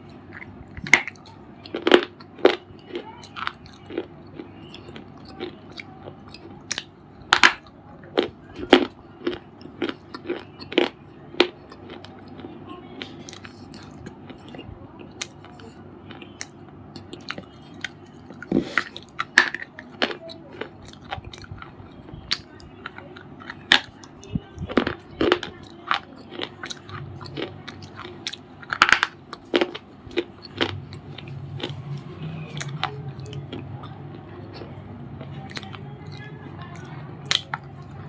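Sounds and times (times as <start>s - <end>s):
crunchy bar being chewed: 0.0s - 38.0s.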